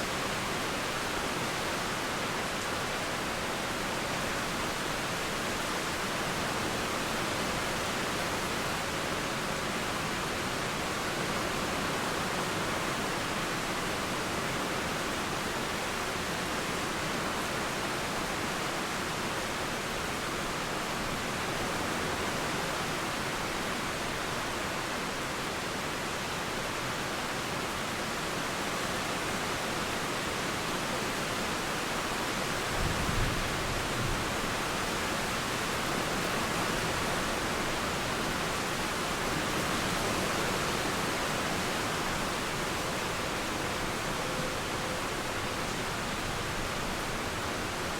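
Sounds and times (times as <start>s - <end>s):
running river water: 0.0s - 47.9s
steady rain: 0.0s - 47.9s.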